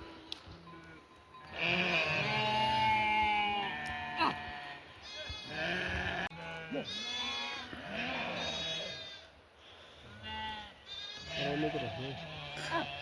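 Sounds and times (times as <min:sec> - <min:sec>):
livestock bleating: 0:00.6 - 0:09.3, 0:10.0 - 0:13.0.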